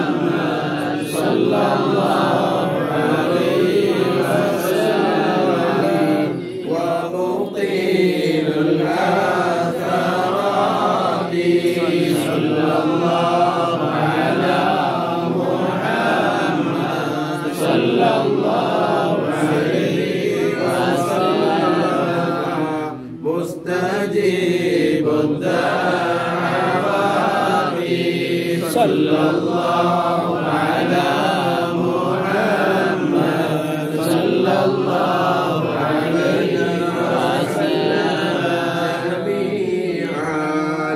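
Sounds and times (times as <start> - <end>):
men chanting: 0.0 - 40.9.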